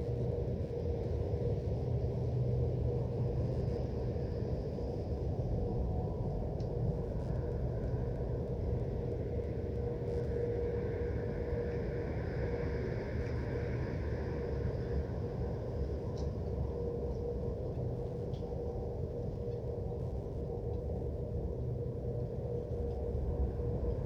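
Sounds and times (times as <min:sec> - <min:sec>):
droning hum: 0:00.0 - 0:24.0.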